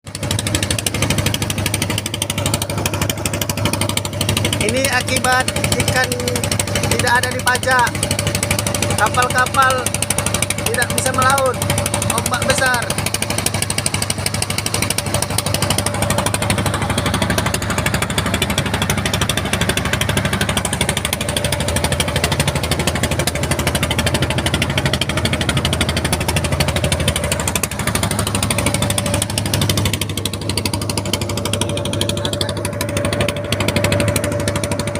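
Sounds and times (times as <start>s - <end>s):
boat engine knocking: 0.0s - 34.9s.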